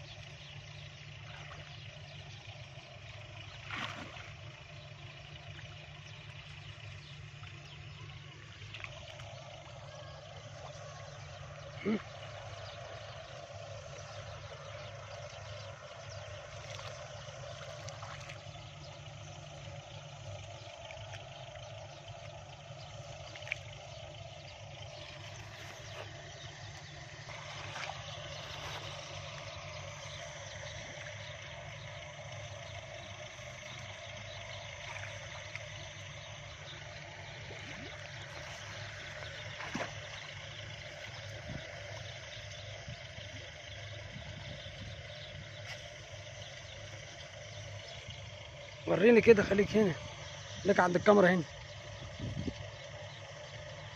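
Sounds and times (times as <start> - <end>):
steady low drone: 0.0 - 53.9
water sloshing from wading: 0.0 - 53.9.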